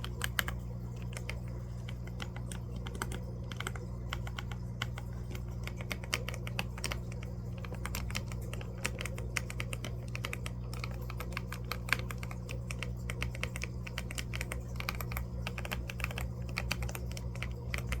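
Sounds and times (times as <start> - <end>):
fish tank equipment humming: 0.0 - 18.0
keyboard typing: 0.0 - 18.0.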